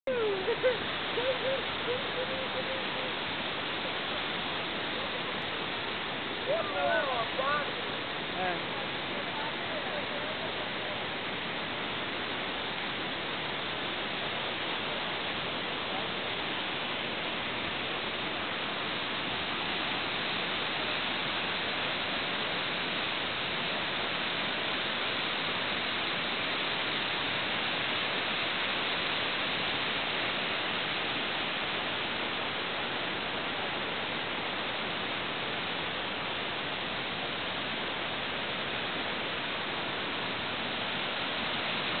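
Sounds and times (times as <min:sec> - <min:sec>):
waterfall rushing over rocks: 0:00.0 - 0:42.0.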